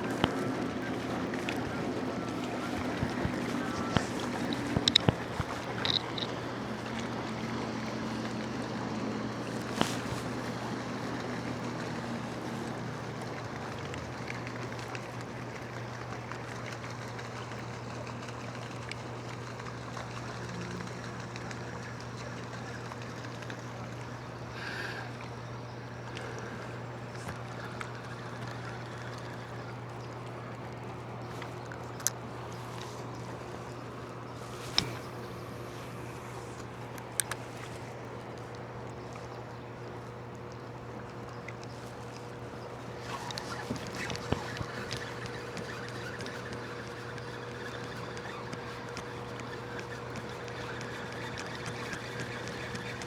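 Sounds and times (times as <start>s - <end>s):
steady low hum: 0.0s - 14.4s, 19.2s - 53.0s
water around a boat: 0.0s - 53.0s.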